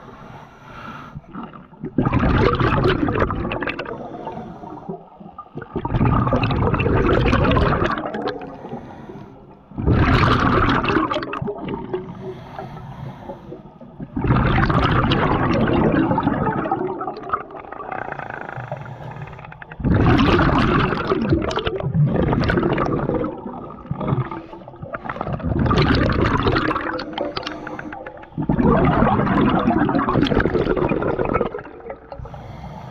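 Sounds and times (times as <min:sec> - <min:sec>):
diver bubbling exhalations: 0:01.3 - 0:08.8, 0:09.8 - 0:12.3, 0:13.5 - 0:32.9.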